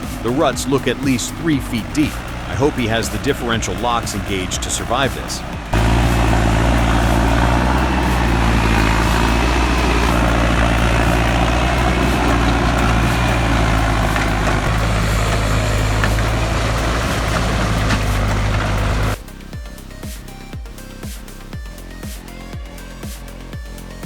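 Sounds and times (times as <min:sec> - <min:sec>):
heavy vehicle engine droning: 0:00.0 - 0:19.4.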